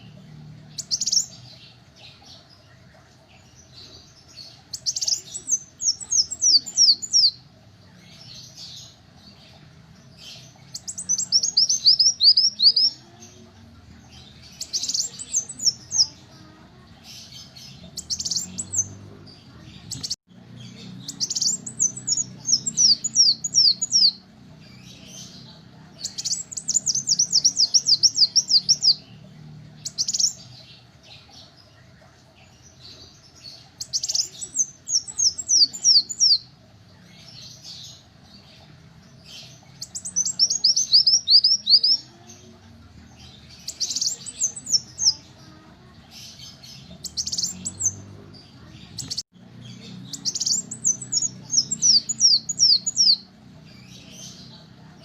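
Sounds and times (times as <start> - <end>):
sunbird singing: 0.0 - 55.0.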